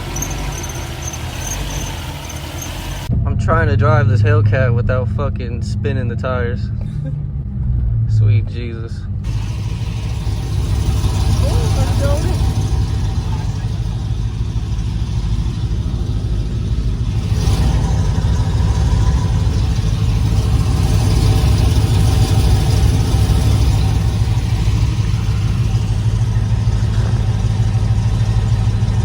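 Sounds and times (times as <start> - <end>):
car engine droning while driving: 0.0 - 29.0.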